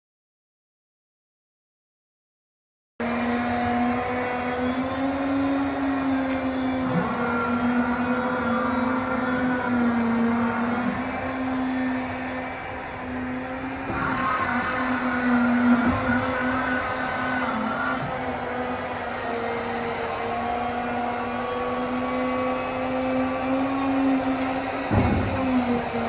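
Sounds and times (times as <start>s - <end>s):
machine hum with high whine: 3.3s - 26.0s.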